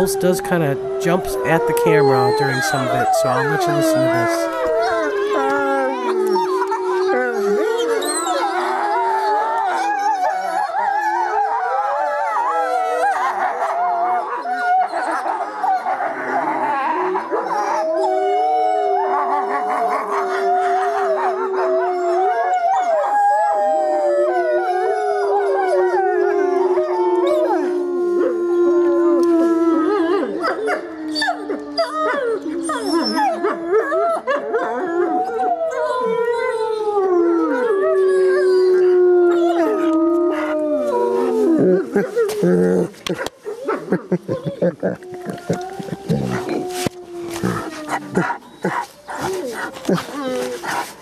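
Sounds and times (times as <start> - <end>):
wolves howling in chorus: 0.0 - 51.0.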